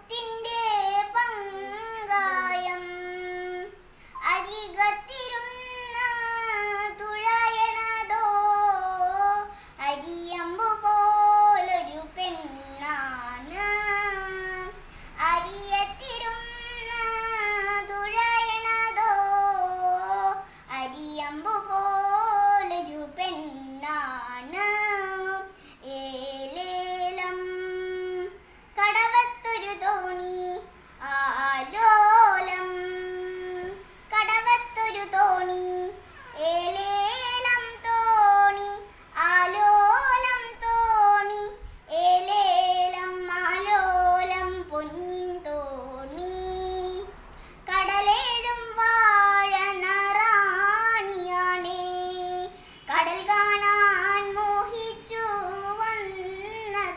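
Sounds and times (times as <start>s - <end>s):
girl singing unaccompanied: 0.0s - 56.9s.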